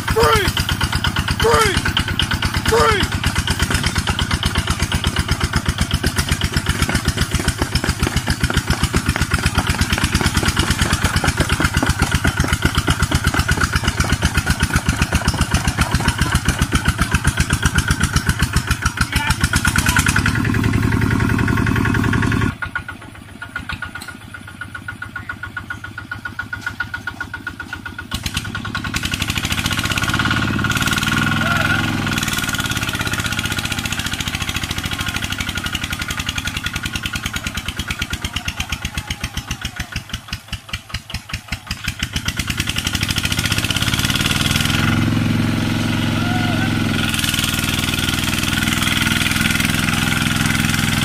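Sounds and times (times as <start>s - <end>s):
diesel engine chugging: 0.0s - 51.0s.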